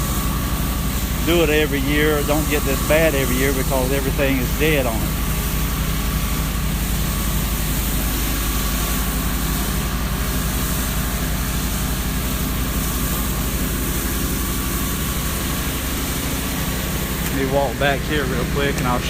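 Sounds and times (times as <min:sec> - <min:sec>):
pressure washer engine running: 0:00.0 - 0:19.0
water spraying hiss: 0:00.0 - 0:19.0.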